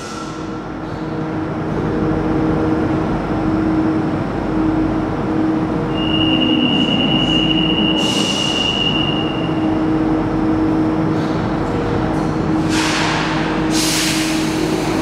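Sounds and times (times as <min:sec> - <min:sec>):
train electrical hum: 0:00.0 - 0:15.0.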